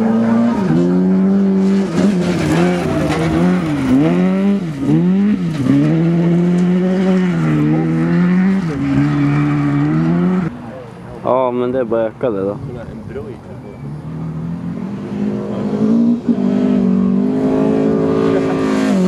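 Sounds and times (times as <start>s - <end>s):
rally car engine revving: 0.0s - 10.6s, 13.6s - 19.0s.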